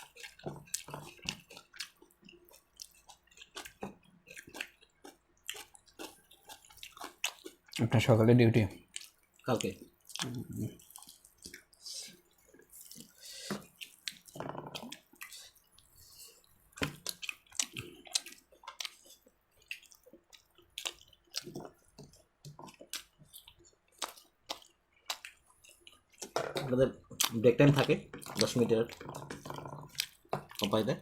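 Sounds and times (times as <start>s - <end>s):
chewing with wet mouth clicks: 0.0s - 7.9s, 8.7s - 31.0s.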